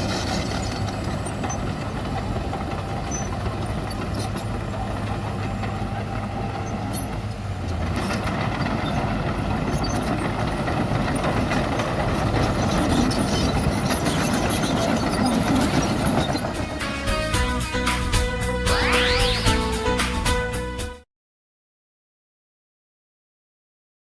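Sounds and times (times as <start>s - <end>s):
diesel engine of heavy machinery: 0.0s - 20.5s.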